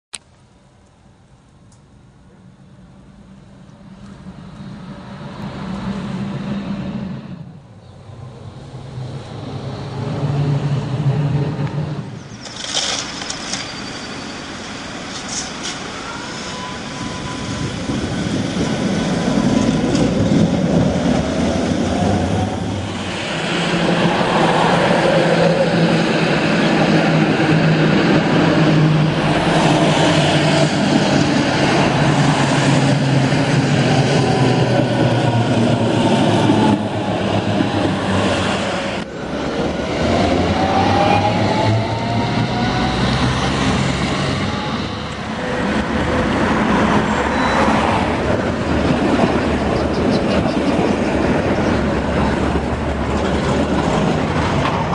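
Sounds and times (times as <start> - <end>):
tram running past with whine: 0.4 - 54.9.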